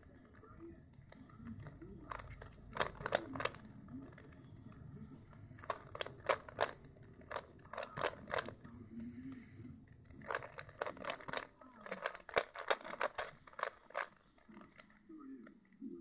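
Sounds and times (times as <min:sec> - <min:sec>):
puzzle cube layers clicking: 0:00.0 - 0:09.1, 0:09.9 - 0:15.8.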